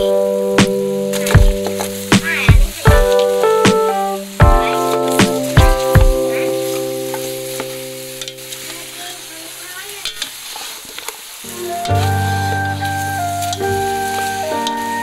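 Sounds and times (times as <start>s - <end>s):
background music chord: 0.0s - 9.1s, 11.5s - 15.0s
food sizzling in a pan: 0.0s - 15.0s.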